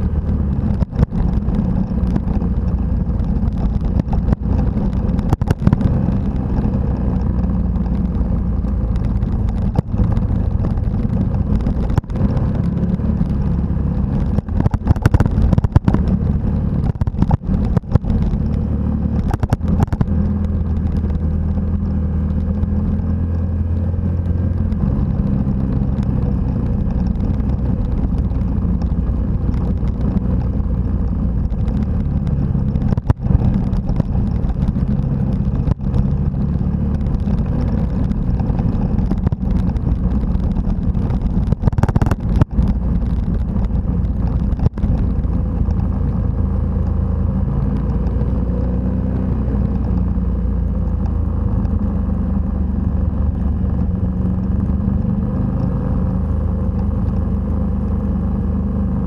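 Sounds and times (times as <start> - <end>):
wind on microphone: 0.0 - 51.4
motorcycle engine running: 0.0 - 59.0.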